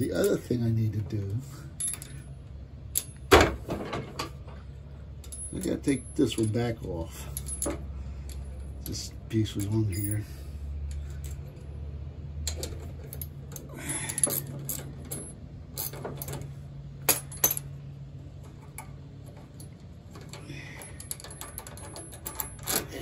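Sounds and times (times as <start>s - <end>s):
steady low hum: 0.0s - 23.0s
metal brake parts clinking: 1.7s - 2.3s, 2.9s - 11.8s, 12.4s - 17.8s, 18.4s - 23.0s.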